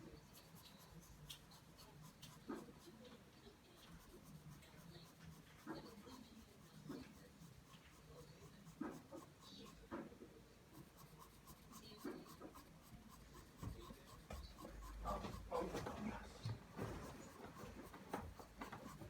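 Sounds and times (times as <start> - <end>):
pencil scratching on paper: 0.0 - 19.0.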